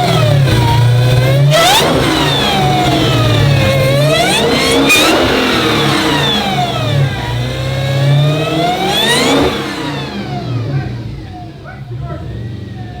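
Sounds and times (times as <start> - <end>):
car engine revving loudly: 0.0 - 13.0.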